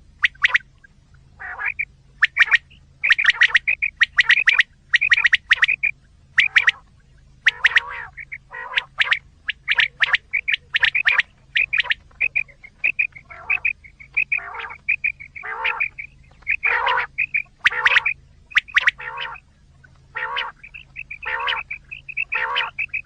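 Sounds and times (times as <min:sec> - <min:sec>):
recorded quail calls: 0:00.0 - 0:23.0.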